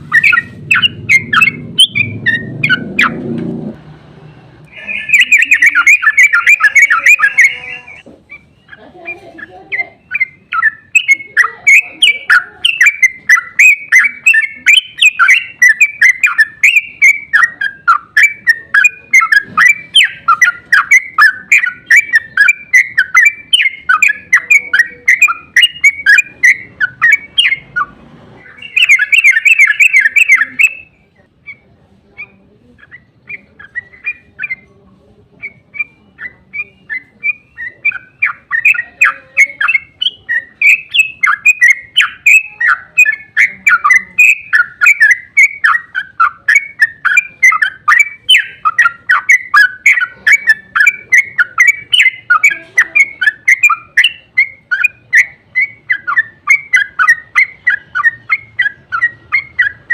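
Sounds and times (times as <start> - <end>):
bird chattering call: 0.0 - 3.3, 4.7 - 59.9.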